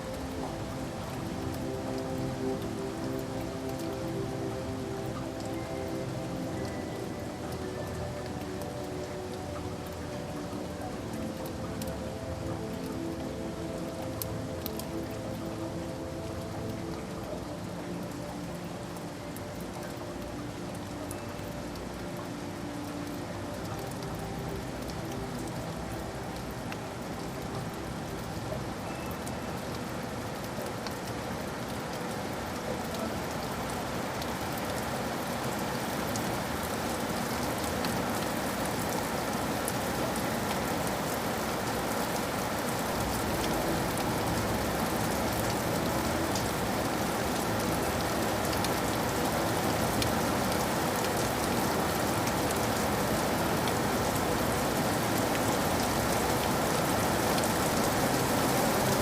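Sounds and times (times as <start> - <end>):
raindrop ticks: 0.0 - 59.0
steady rain hiss: 0.0 - 59.0.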